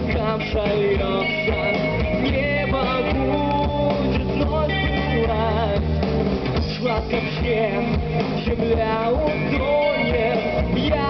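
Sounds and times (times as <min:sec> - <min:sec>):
person singing: 0:00.0 - 0:06.0, 0:06.6 - 0:11.0
drums: 0:00.0 - 0:11.0
electric guitars: 0:00.0 - 0:11.0.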